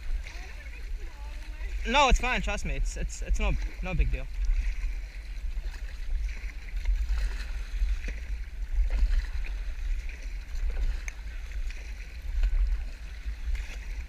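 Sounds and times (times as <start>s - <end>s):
water splashing off paddle: 0.0s - 14.0s
wind buffeting microphone: 0.0s - 14.0s.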